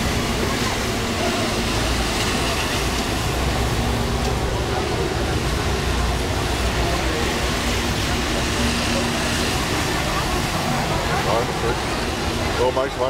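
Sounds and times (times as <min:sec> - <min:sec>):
buses passing: 0:00.0 - 0:13.0
chatter of passers-by: 0:00.0 - 0:13.0
traffic on wet road: 0:00.0 - 0:13.0.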